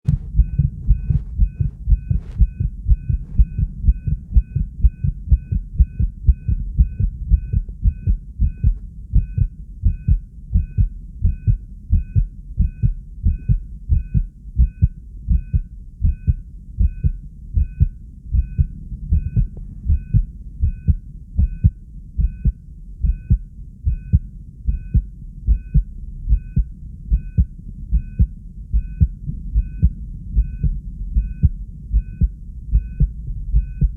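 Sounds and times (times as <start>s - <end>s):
fast heartbeat thumps: 0.0s - 33.9s.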